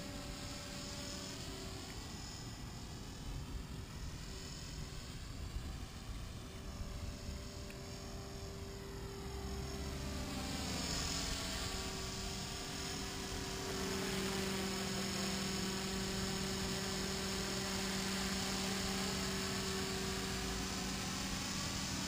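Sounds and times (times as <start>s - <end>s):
rc helicopter rotor hum: 0.0s - 22.0s.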